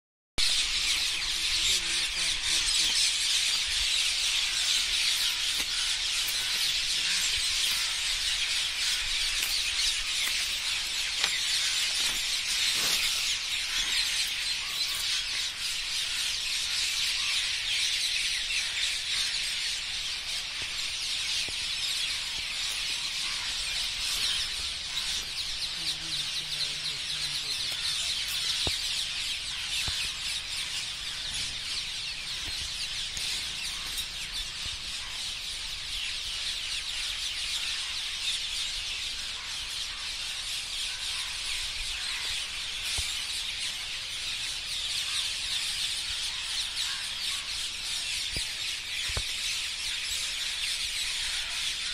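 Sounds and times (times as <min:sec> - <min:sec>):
chorus of birds calling: 0:00.4 - 0:51.9.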